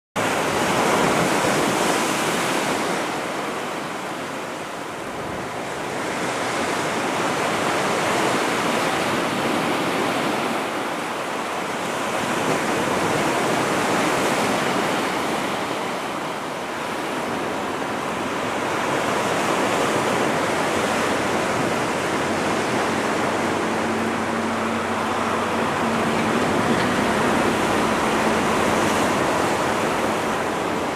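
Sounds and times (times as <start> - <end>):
ocean surf breaking on beach: 0.2 - 30.9.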